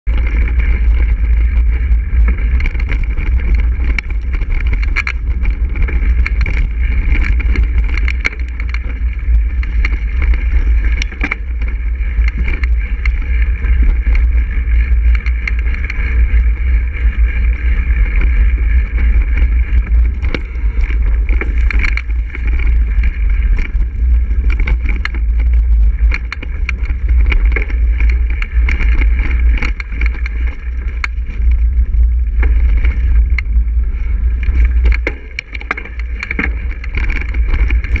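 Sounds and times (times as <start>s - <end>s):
bike knocking and rattling: 0.0s - 38.0s
bike tyres rumbling on dirt: 0.0s - 38.0s.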